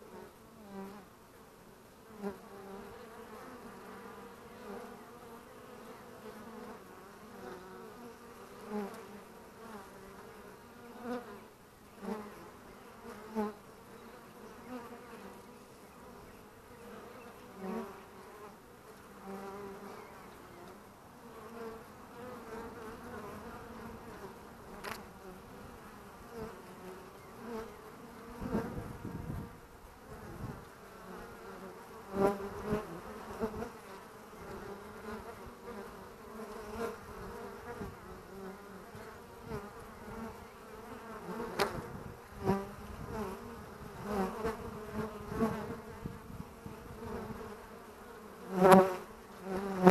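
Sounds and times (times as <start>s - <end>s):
single bee flying close past: 0.0s - 1.1s, 2.0s - 49.9s
bees buzzing: 2.0s - 49.9s.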